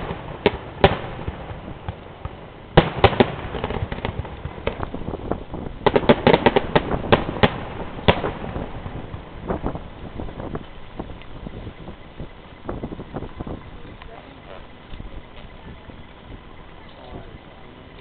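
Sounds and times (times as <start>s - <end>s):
crackling firework bangs: 0.0s - 17.5s
fireworks bangs: 0.0s - 18.0s.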